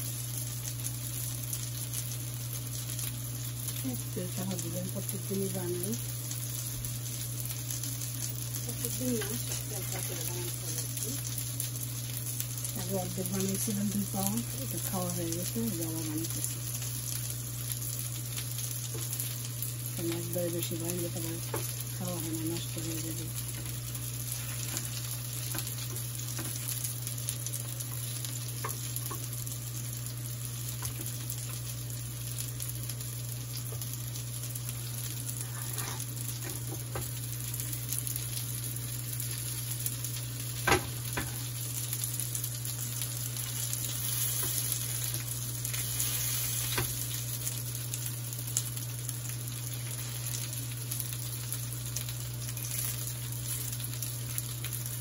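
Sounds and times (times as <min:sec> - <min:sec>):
patties sizzling in oil: 0:00.0 - 0:55.0.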